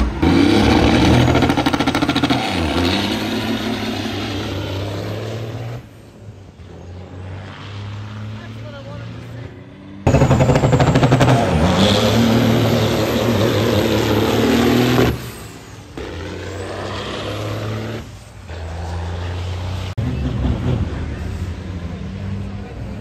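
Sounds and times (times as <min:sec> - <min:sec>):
diesel truck engines accelerating: 0:00.0 - 0:23.0.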